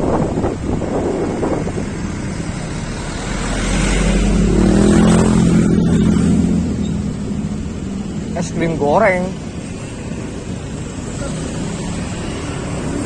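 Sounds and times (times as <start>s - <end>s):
vehicle engine running: 0.0s - 13.0s
wind buffeting microphone: 0.0s - 13.0s.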